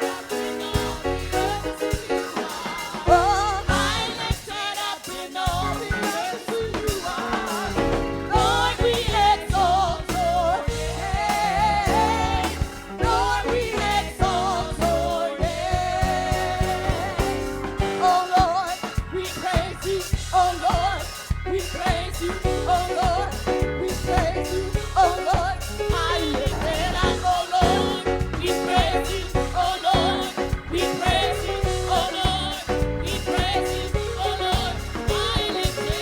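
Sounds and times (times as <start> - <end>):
gospel band with drums: 0.0 - 36.0
person singing: 0.0 - 36.0.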